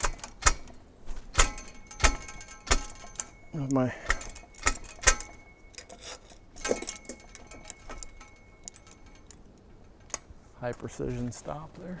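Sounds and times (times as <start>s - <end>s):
metal clinks and knocks: 0.0s - 11.2s
faint metallic ringing: 0.0s - 12.0s.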